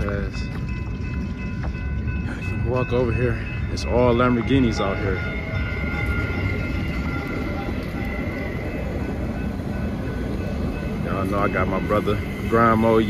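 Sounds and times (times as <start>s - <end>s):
train rumbling past: 0.0s - 13.0s
high whine: 0.3s - 13.0s.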